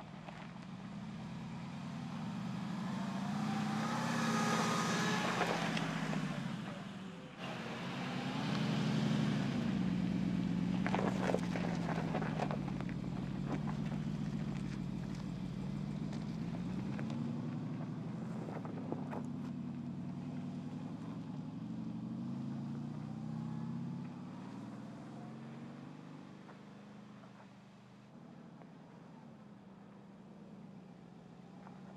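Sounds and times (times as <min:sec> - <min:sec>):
car engine running at low revs: 0:00.0 - 0:31.9.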